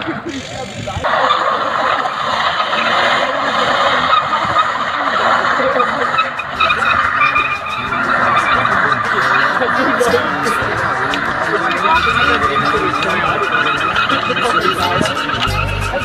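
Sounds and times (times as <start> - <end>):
engine at high revs: 0.0 - 16.0
tyres screeching: 0.0 - 16.0.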